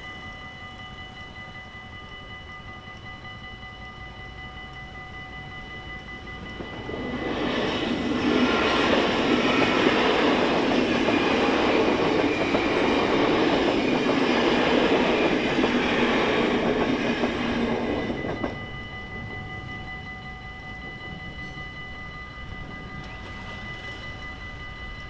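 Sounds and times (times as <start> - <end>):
crossing warning bells ringing: 0.0 - 25.0
passenger train rumbling past: 0.0 - 25.0.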